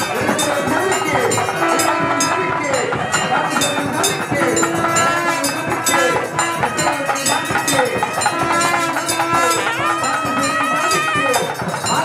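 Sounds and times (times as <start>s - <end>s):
temple bells ringing: 0.0s - 12.0s
voices: 0.0s - 12.0s.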